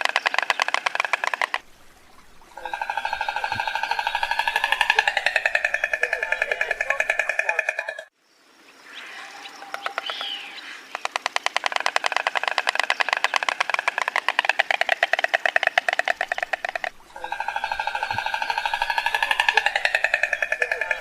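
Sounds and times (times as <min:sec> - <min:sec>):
stork bill clattering: 0:00.0 - 0:08.1, 0:10.9 - 0:21.0.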